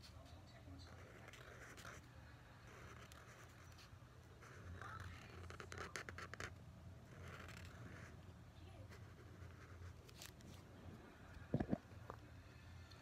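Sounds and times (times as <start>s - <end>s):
marker scratching on paper: 0.0s - 10.7s.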